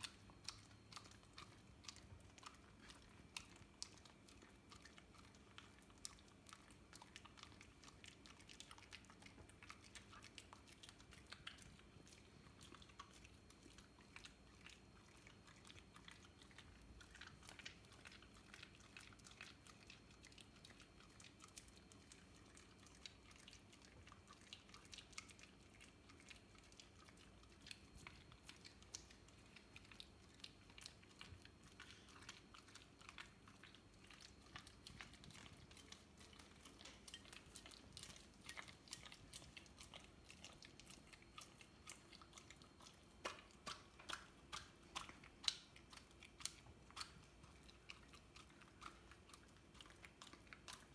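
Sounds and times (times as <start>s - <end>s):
dog licking and chewing: 0.0s - 50.9s.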